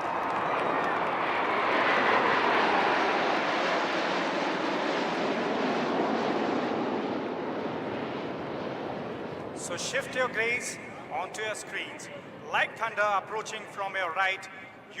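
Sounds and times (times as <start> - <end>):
military jets flying past: 0.0 - 15.0.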